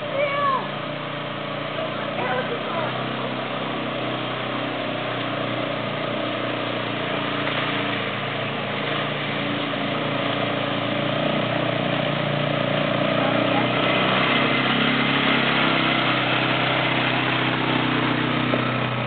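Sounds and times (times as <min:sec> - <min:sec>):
quad bike engine running: 0:00.0 - 0:19.0
water splashing around wheels: 0:00.0 - 0:19.0.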